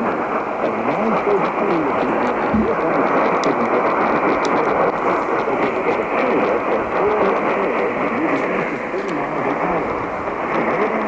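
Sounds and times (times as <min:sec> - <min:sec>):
radio static hiss: 0:00.0 - 0:11.0
faint voice on radio: 0:00.6 - 0:10.0.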